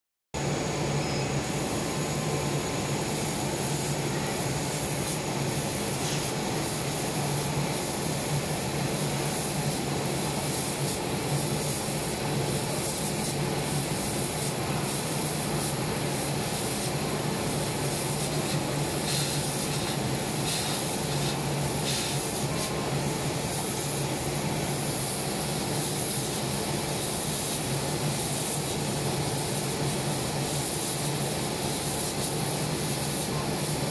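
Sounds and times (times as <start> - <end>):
laser cutting machine humming: 0.4 - 33.9.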